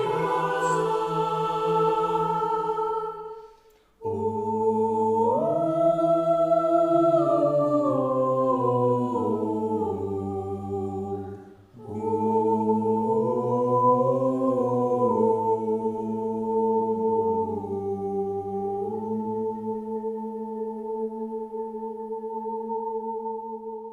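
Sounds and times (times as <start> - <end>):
a cappella choir singing chords: 0.0 - 23.9.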